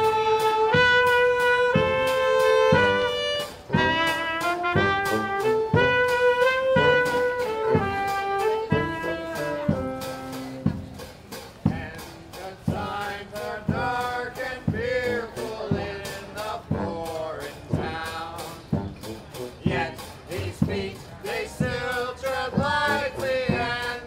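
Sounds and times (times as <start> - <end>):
bass drum beats: 0.0 - 24.0
wind instrument tune: 0.0 - 24.0.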